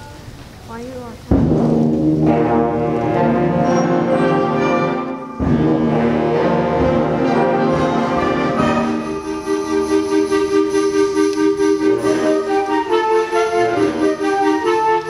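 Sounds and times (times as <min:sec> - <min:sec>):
concert band playing chords: 0:01.2 - 0:15.0.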